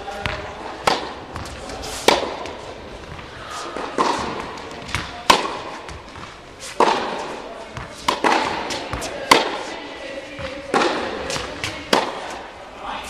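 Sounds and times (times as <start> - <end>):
tennis ball bounces: 0.2 - 12.5
tennis ball struck by racket: 0.2 - 12.5.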